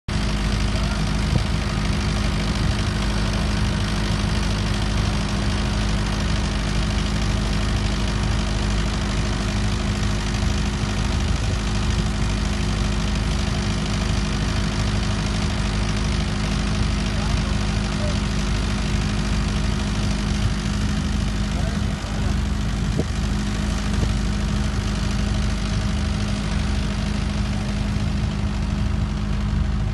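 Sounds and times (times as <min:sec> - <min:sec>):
machine drone with low hum: 0:00.1 - 0:29.9.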